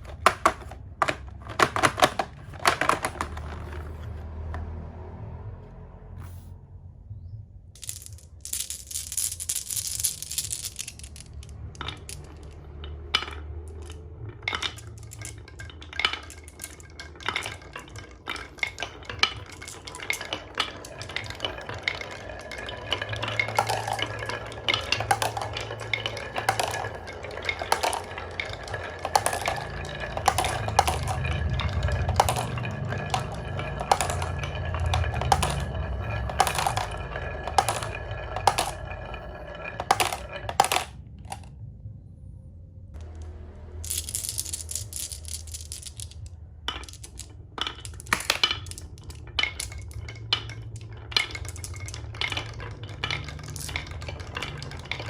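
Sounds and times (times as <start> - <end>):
marbles clicking on wooden track: 0.0 - 4.8, 7.8 - 41.5, 43.0 - 55.0
marbles rolling rumble: 0.0 - 5.5, 7.7 - 41.7, 43.0 - 55.0.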